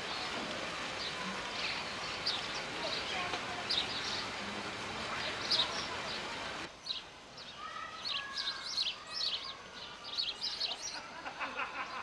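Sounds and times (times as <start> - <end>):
birds chirping: 0.0 - 11.1.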